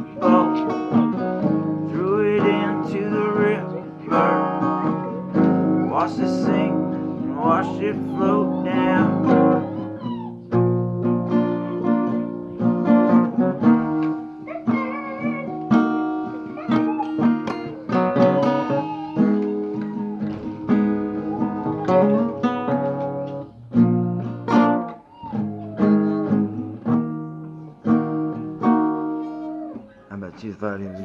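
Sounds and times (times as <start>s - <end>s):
acoustic guitar playing: 0.0s - 30.1s.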